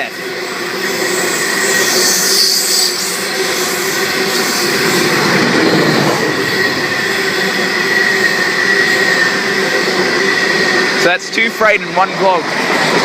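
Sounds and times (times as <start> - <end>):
freight train wheels on track: 0.0 - 13.0.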